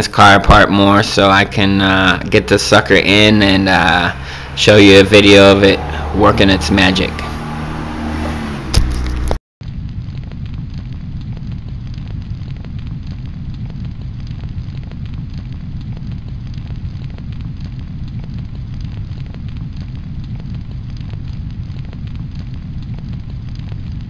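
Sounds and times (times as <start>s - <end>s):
fire roaring and crackling: 0.0s - 24.0s.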